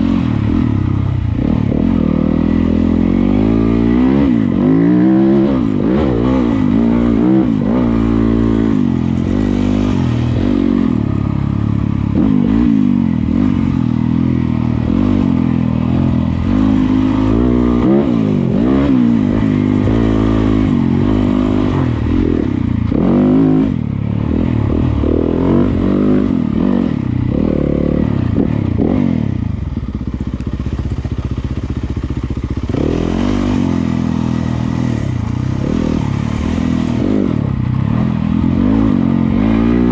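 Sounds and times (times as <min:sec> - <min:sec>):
dirt bike engine revving: 0:00.0 - 0:30.1, 0:30.8 - 0:39.9.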